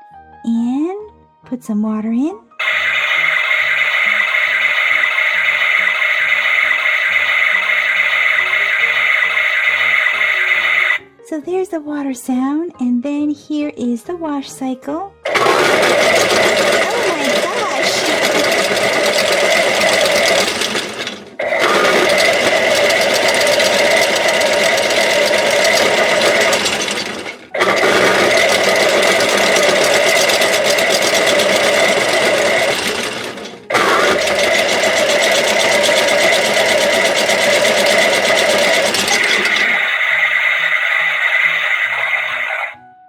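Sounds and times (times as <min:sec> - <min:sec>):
toy electronic buzzing machine noise: 0:02.6 - 0:11.0, 0:15.3 - 0:42.8.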